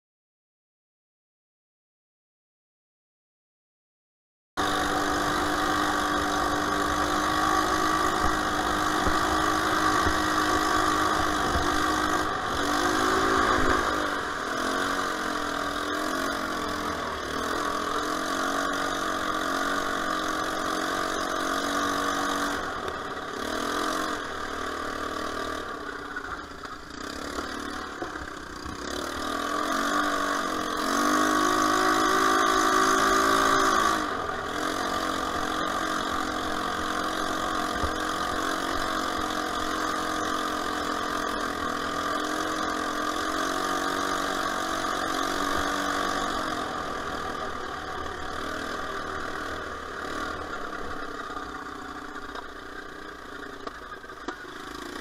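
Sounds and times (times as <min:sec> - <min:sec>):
off-road vehicle engine running: 0:04.6 - 0:55.0.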